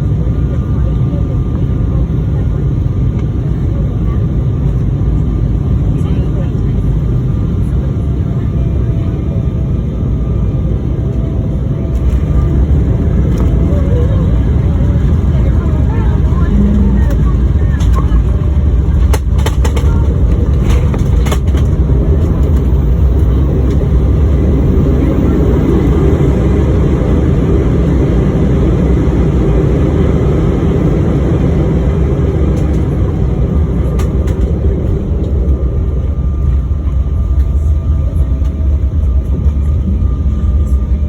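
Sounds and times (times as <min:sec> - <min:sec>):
airliner cabin rumble: 0:00.0 - 0:41.0
faint engine whine: 0:00.0 - 0:41.0.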